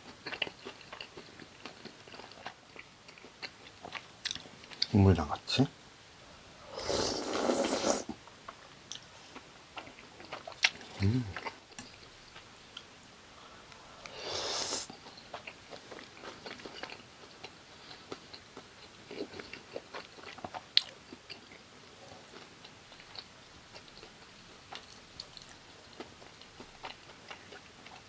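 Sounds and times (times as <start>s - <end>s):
wet chewing with mouth clicks: 0.0s - 4.9s, 7.1s - 12.9s, 14.0s - 21.7s, 22.3s - 28.0s.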